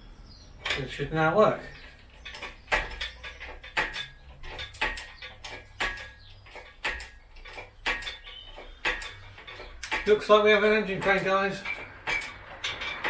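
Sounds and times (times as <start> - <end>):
hydraulic hand pump clacking: 0.6 - 13.0.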